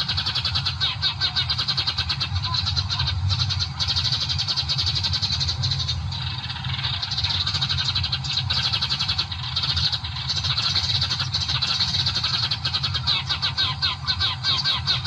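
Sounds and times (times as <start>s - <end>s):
flock of small birds chattering: 0.0s - 15.0s
steady low rumble: 0.0s - 15.0s.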